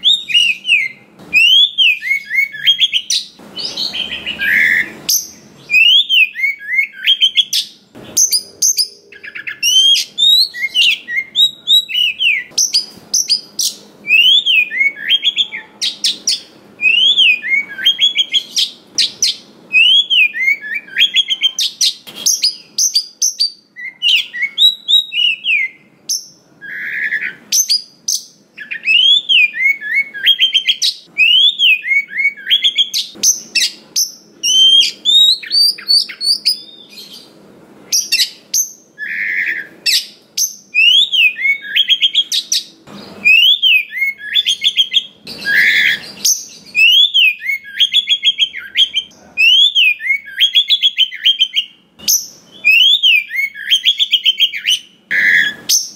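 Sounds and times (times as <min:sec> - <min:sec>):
bird singing whistled song: 0:00.0 - 0:37.3, 0:37.9 - 0:55.9.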